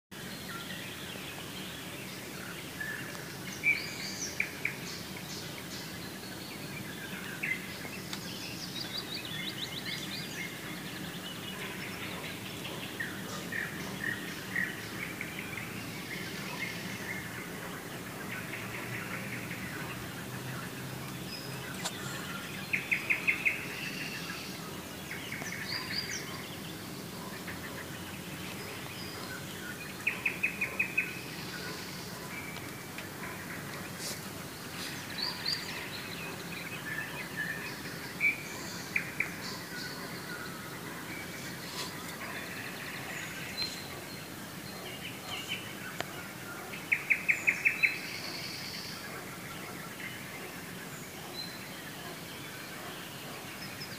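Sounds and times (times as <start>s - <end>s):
birds singing and calling: 0.2s - 53.9s.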